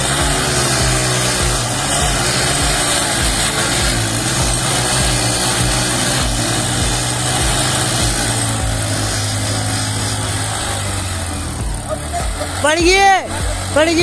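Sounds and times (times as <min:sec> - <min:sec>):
motorcycle engines revving high: 0:00.0 - 0:14.0.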